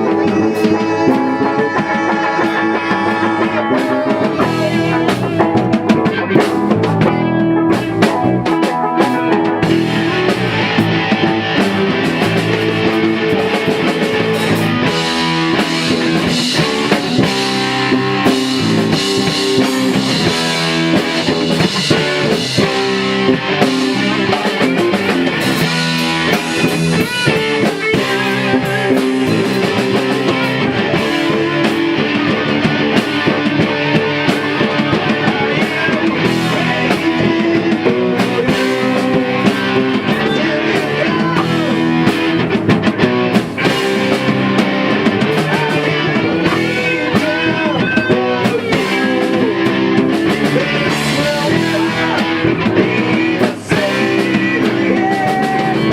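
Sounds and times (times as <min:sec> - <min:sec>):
rock band playing: 0:00.0 - 0:55.9.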